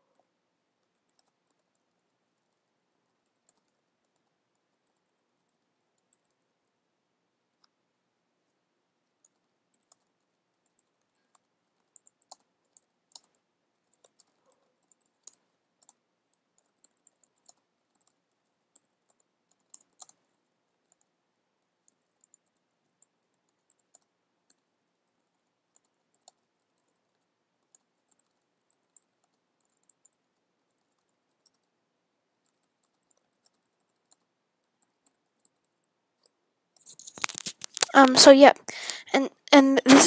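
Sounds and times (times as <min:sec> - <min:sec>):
computer keyboard typing: 0:00.9 - 0:02.6, 0:03.2 - 0:06.4, 0:09.2 - 0:20.2, 0:21.8 - 0:31.8, 0:32.4 - 0:40.0.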